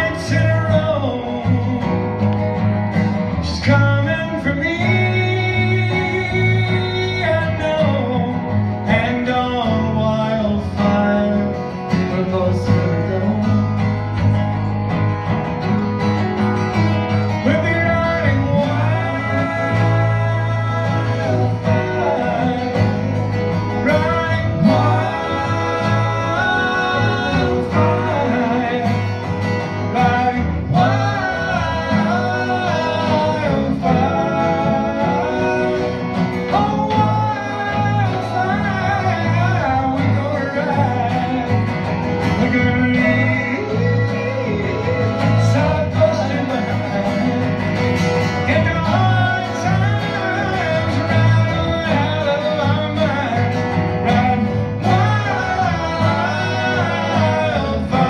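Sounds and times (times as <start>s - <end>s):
man singing: 0.0s - 2.6s, 3.2s - 14.1s, 17.1s - 58.0s
bass guitar: 0.0s - 58.0s
strummed acoustic guitars: 0.0s - 58.0s.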